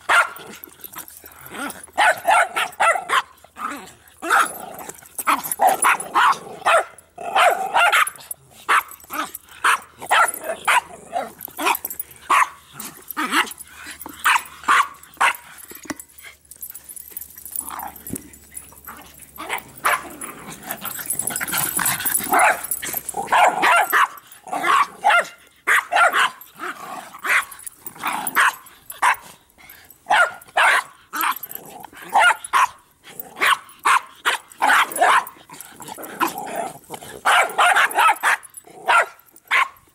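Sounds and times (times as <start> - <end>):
small dogs barking: 0.0 - 0.6, 1.5 - 3.6, 4.2 - 15.7, 18.8 - 29.4, 30.0 - 39.9
dogs growling: 0.3 - 25.2, 26.3 - 30.1, 30.9 - 39.4.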